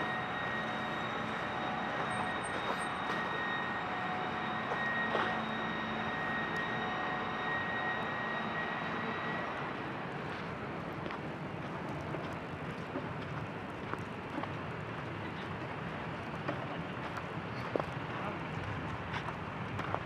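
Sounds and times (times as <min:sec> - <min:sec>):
electric tram whine: 0:00.0 - 0:20.0.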